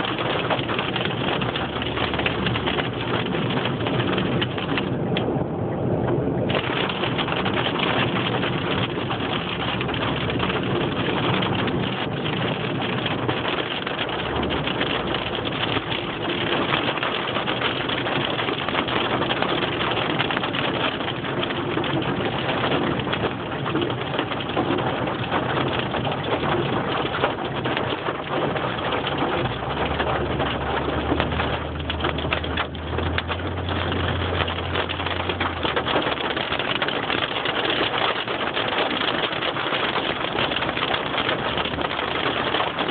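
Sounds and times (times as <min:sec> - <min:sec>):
hail and heavy rain: 0:00.0 - 0:05.4, 0:06.2 - 0:42.9.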